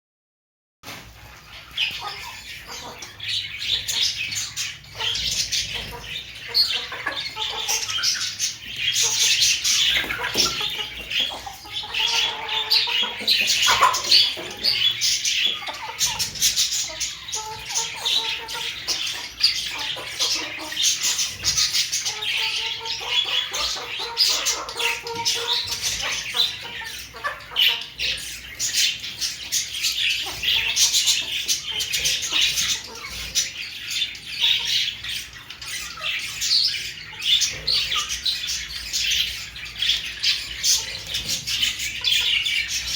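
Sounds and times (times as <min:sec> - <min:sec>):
chickens chirping: 0:00.8 - 0:42.9
chickens drawn-out calls: 0:01.1 - 0:42.9.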